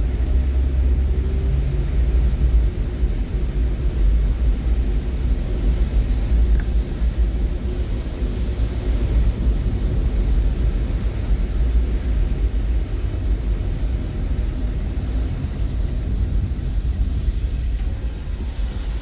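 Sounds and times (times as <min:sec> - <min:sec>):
vehicle rumbling: 0:00.0 - 0:19.0.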